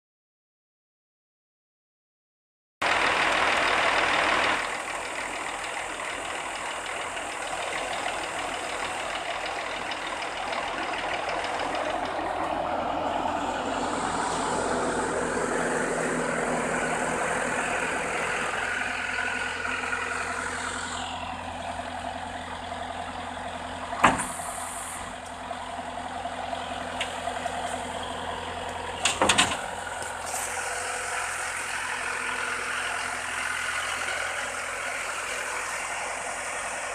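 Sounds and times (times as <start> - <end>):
diesel truck engine running: 2.8 - 36.9.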